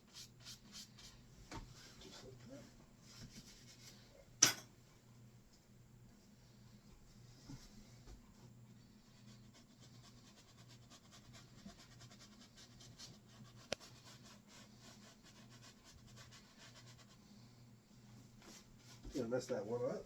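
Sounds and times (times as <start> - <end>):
paintbrush strokes on canvas: 0.0 - 4.2, 6.1 - 20.0.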